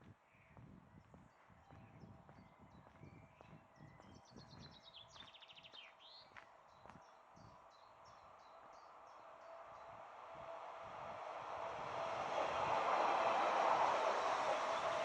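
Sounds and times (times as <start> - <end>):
songbird singing: 0.2 - 15.0.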